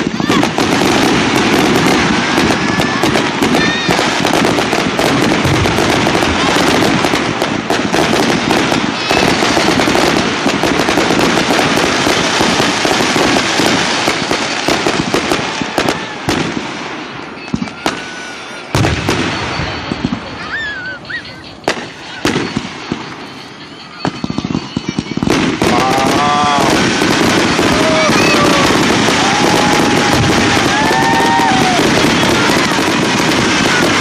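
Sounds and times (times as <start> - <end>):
faint fireworks whistling: 0.0 - 34.0
fireworks crackling and banging: 0.0 - 34.0.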